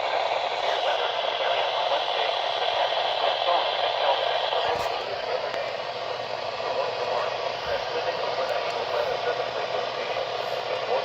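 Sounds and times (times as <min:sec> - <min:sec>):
voice from radio speaker: 0:00.3 - 0:11.0.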